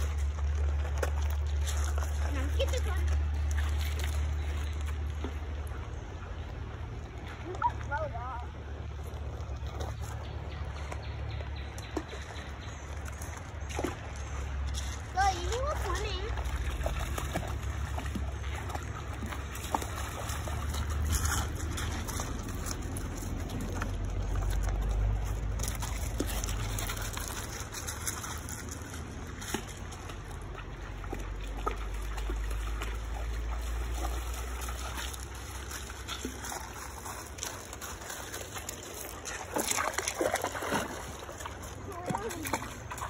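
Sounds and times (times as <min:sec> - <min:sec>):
river water trickling: 0:00.0 - 0:43.0.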